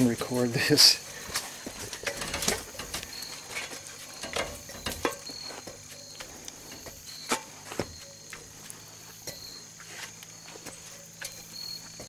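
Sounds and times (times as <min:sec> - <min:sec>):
climbing on metal ladder rungs: 0:00.0 - 0:12.0.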